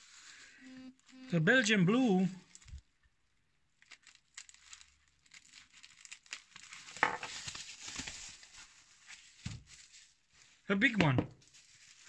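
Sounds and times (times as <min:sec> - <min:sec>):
bubble wrap crinkling: 0:00.0 - 0:01.6, 0:02.3 - 0:03.1, 0:03.7 - 0:10.7, 0:11.4 - 0:12.0.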